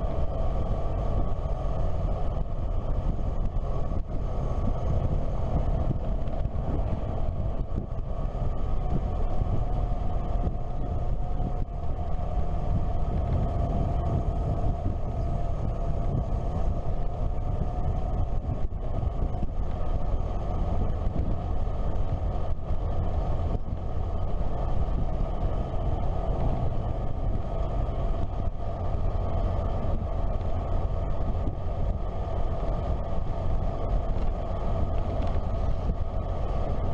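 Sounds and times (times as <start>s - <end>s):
motorcycle engine running: 0.0s - 36.9s
road noise: 0.0s - 36.9s
wind on microphone: 0.0s - 36.9s.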